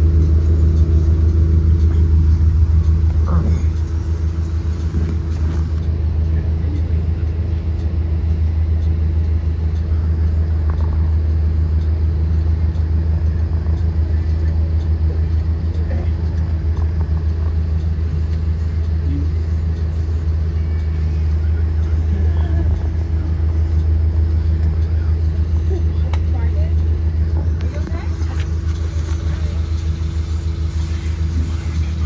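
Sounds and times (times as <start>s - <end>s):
bus engine rumbling: 0.0s - 32.0s
constant hum: 0.0s - 32.0s.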